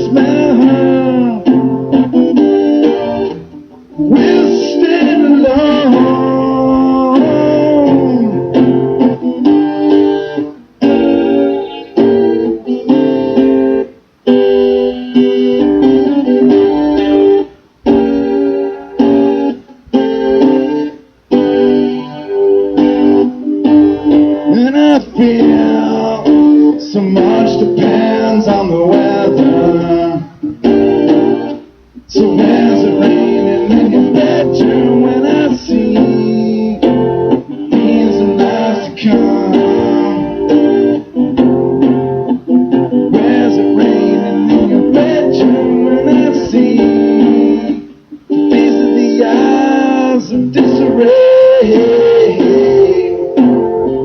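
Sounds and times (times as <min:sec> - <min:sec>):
live band guitar music: 0:00.0 - 0:54.0.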